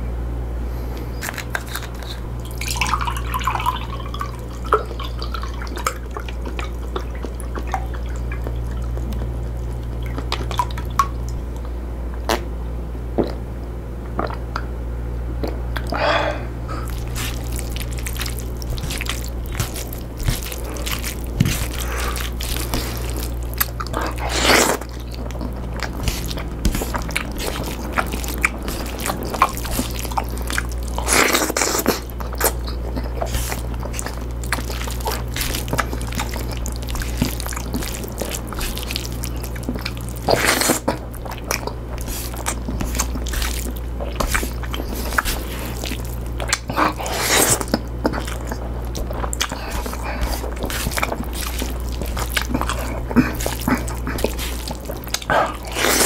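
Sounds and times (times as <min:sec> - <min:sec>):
steady low hum: 0:00.0 - 0:56.0
person chewing: 0:00.8 - 0:12.5, 0:13.2 - 0:13.4, 0:14.2 - 0:14.7, 0:15.4 - 0:56.0.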